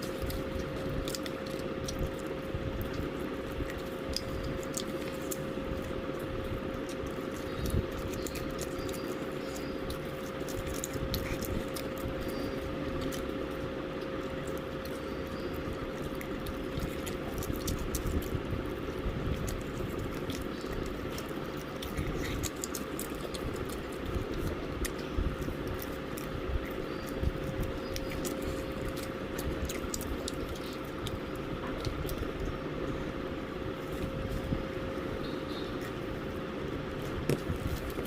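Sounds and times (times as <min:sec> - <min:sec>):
person chewing wetly: 0:00.0 - 0:38.0
steady electrical hum: 0:00.0 - 0:38.0.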